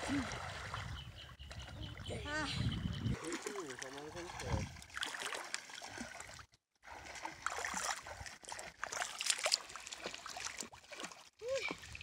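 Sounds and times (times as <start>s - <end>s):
water splashing from swimming: 0.0s - 12.0s.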